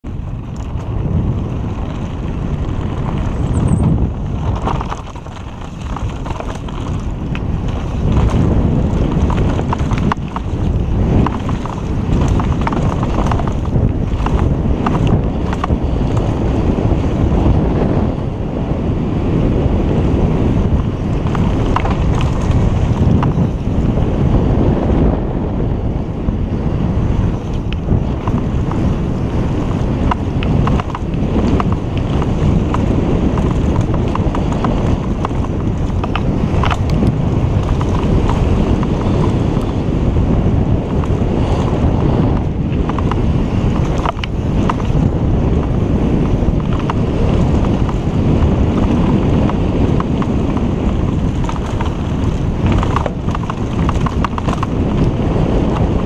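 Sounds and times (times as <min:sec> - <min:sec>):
tyres on dirt: 0:00.0 - 0:17.4, 0:19.7 - 0:24.2, 0:27.0 - 0:56.0
bike clicks and rattles: 0:00.0 - 0:56.0
wind rumble on microphone: 0:00.0 - 0:56.0.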